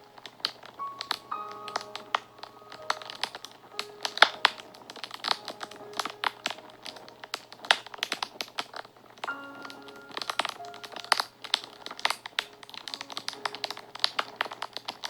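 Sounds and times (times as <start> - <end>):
soft background music: 0.0 - 15.0
wood fire crackling: 0.0 - 15.0.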